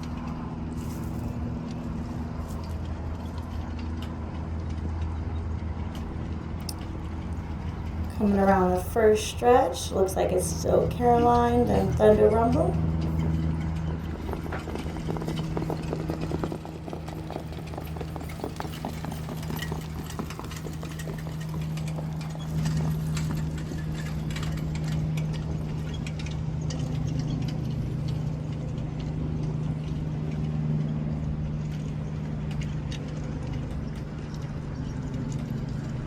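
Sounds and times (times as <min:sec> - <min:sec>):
horses hoofbeats: 0:00.0 - 0:36.0
steady low hum: 0:00.0 - 0:36.0.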